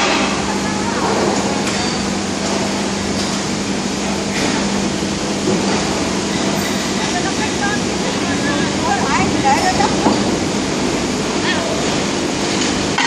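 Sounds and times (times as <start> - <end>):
machinery roar: 0.0 - 13.0.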